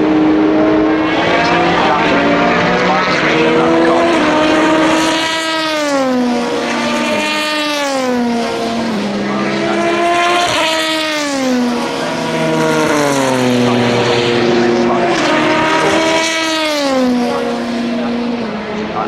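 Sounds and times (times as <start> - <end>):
race cars passing at speed: 0.0 - 19.0.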